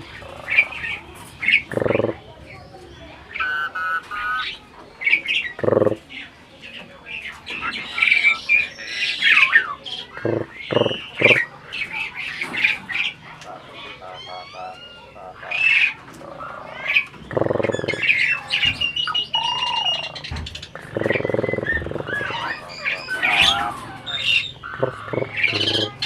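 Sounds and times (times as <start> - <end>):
harsh raspy squawks: 0.0 - 2.3, 5.3 - 6.1, 7.7 - 26.0
myna whistles and chatter: 0.0 - 26.0.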